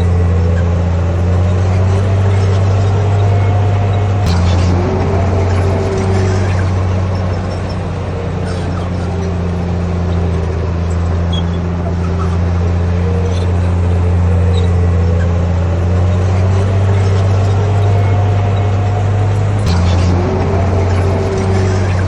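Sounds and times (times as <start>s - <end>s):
diesel engine droning under load: 0.0s - 22.0s
faint engine whine: 0.0s - 22.0s.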